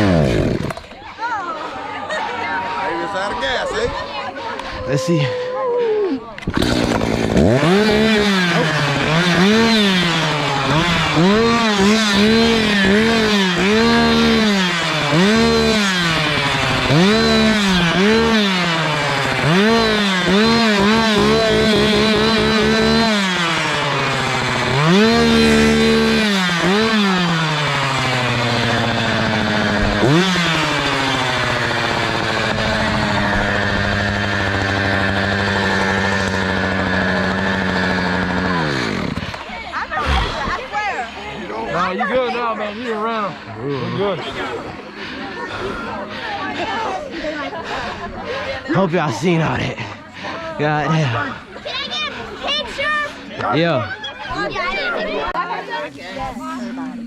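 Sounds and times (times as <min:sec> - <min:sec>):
chainsaw revving and idling: 0:00.0 - 0:01.0, 0:06.4 - 0:57.0.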